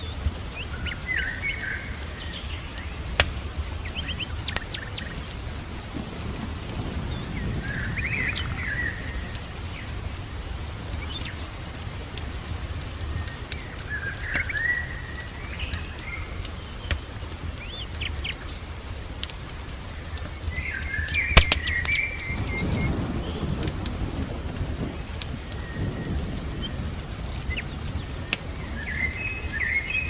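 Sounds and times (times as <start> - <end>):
sharp clicks and crackles: 0.0 - 29.7
rain rumbling: 0.0 - 30.0
small birds chirping: 0.0 - 30.0.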